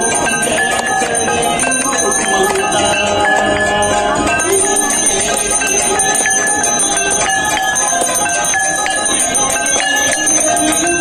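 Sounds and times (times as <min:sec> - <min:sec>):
hand bells ringing fast: 0:00.0 - 0:11.0.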